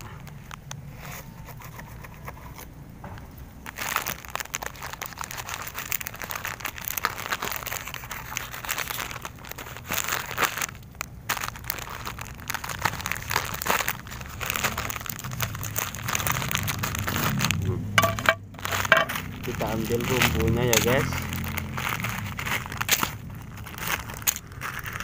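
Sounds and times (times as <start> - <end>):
plastic packet crinkling: 3.6 - 25.0.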